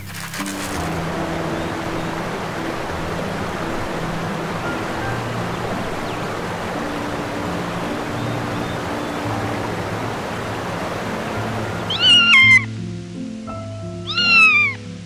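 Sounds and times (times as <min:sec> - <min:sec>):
surf on sandy beach: 0:00.0 - 0:13.4
soft music of held low notes: 0:00.0 - 0:15.0.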